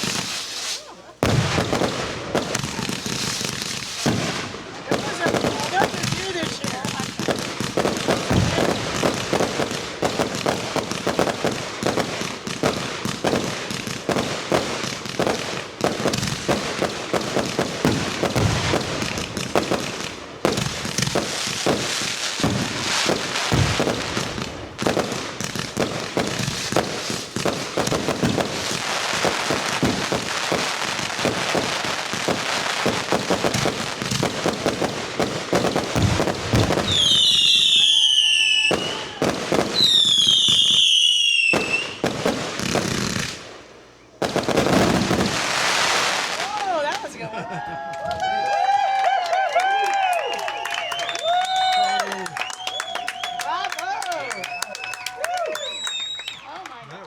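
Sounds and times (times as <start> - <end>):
fireworks banging and crackling: 0.0 - 57.0.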